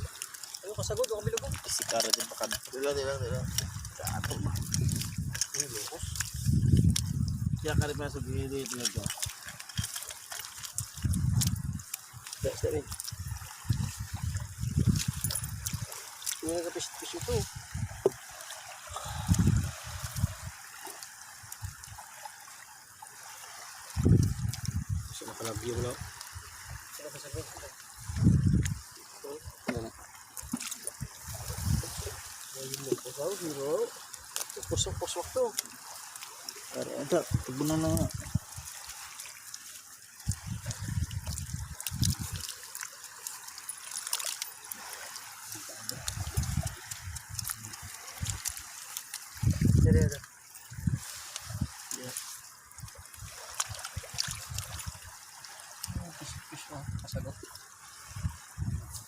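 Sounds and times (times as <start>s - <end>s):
water sloshing: 0.0s - 59.0s
water trickling: 0.0s - 59.0s.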